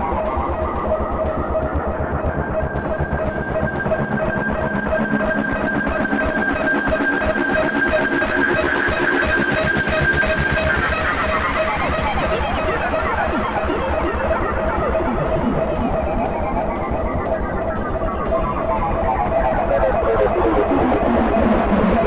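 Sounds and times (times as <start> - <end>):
guitar: 0.0 - 22.0.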